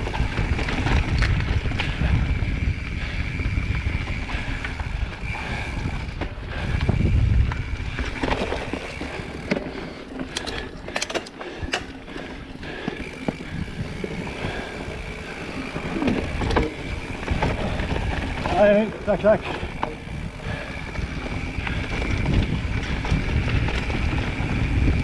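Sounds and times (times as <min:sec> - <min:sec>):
wind buffeting microphone: 0:00.0 - 0:09.6, 0:11.6 - 0:25.0
bike rattling and knocking: 0:00.0 - 0:25.0
bike tyres on dirt: 0:00.0 - 0:25.0.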